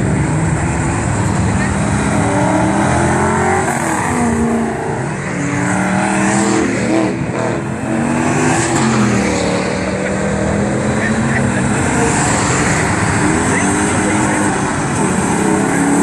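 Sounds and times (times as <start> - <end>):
car engines accelerating hard: 0.0 - 16.0.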